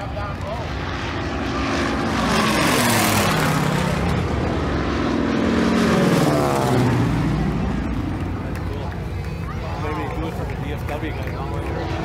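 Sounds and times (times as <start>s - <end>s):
propeller airplane flying overhead: 0.0s - 12.0s.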